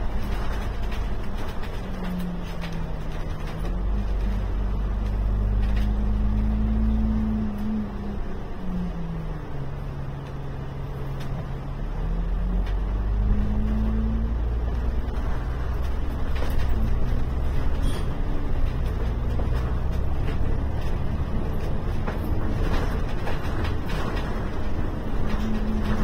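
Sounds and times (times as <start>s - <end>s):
small rattles and knocks: 0.0s - 8.9s, 9.7s - 26.0s
bus engine pulling: 0.0s - 26.0s.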